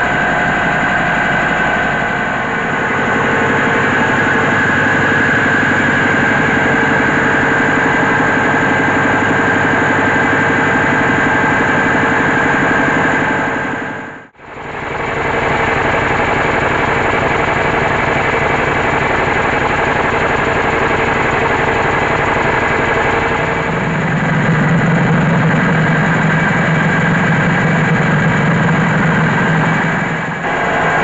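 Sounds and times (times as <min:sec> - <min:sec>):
diesel engine running: 0:00.0 - 0:31.0
low hum: 0:00.0 - 0:31.0
rattle of milling machinery: 0:00.0 - 0:31.0.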